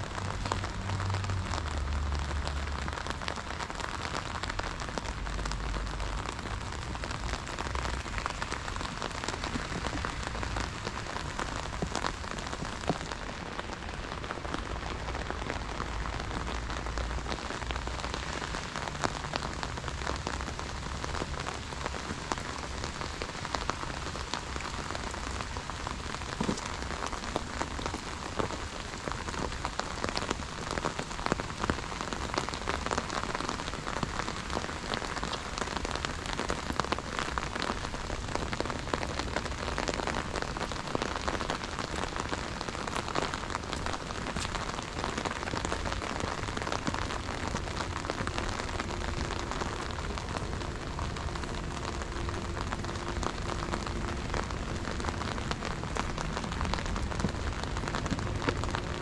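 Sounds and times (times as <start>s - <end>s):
rain on wet paving: 0.0s - 59.0s.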